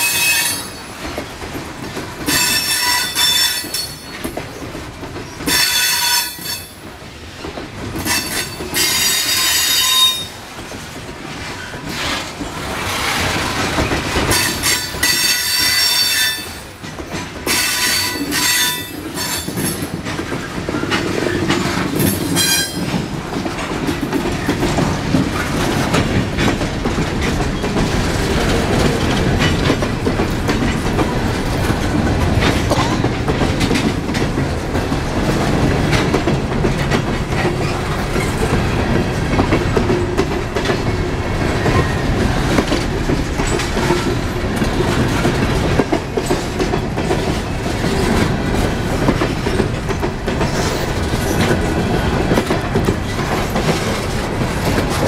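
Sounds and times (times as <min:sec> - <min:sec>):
clickety-clack of wheels: 0:00.0 - 0:55.0
freight train rumbling: 0:00.0 - 0:55.0.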